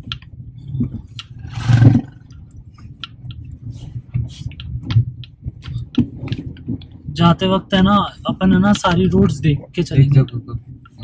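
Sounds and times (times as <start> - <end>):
car engine and road rumble: 0.0 - 11.0
car rattles and clicks: 0.0 - 11.0.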